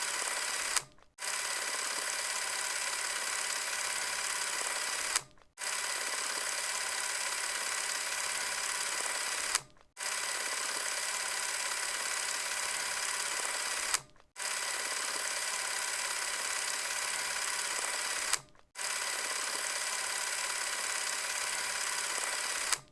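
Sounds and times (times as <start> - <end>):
cash register whirring: 0.0 - 22.9.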